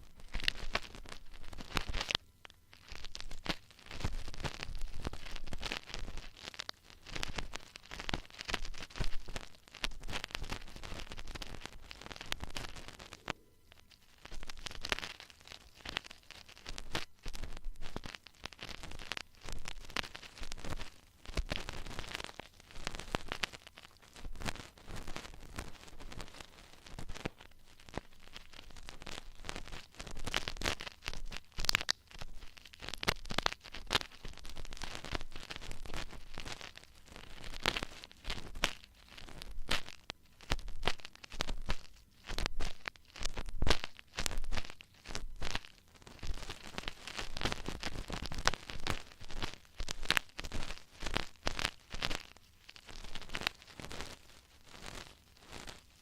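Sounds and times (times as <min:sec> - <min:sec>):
ear tools scratching microphone: 0:00.0 - 0:56.0.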